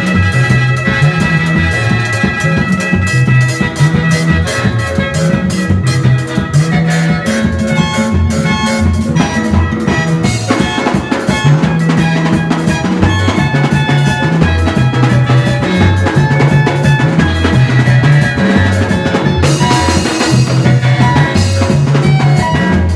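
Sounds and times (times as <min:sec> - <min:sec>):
music with drums and bass: 0:00.0 - 0:22.9.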